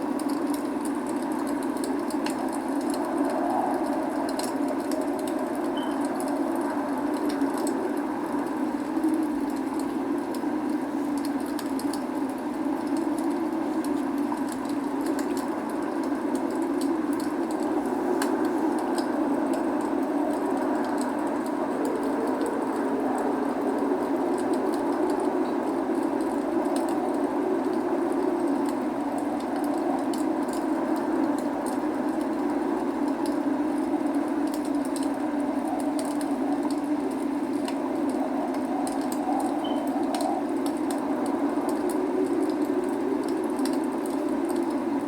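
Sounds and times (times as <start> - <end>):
log fire crackling: 0.0 - 45.0
rain hissing: 0.0 - 45.0.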